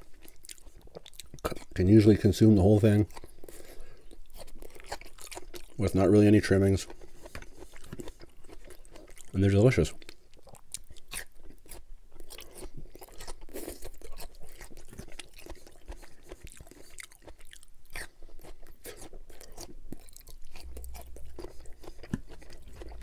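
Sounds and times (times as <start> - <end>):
person chewing asparagus: 0.0 - 23.0.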